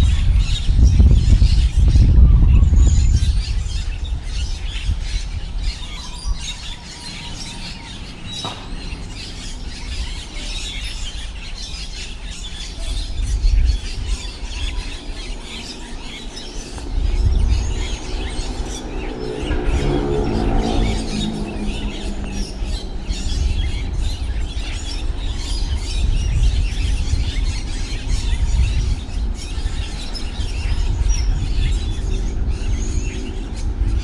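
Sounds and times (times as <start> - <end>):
small birds chirping: 0.0 - 34.0
wind buffeting microphone: 0.0 - 34.0.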